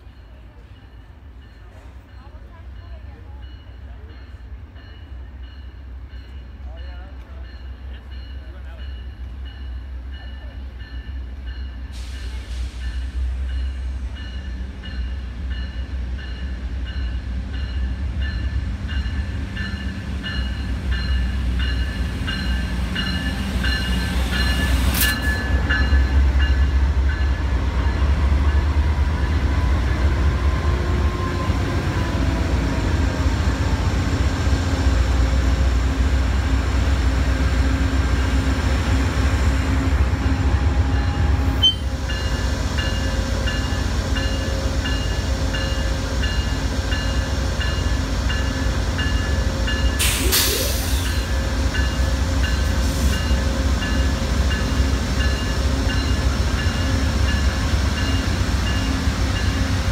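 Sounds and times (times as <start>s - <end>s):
passing train rumble: 0.0s - 59.9s.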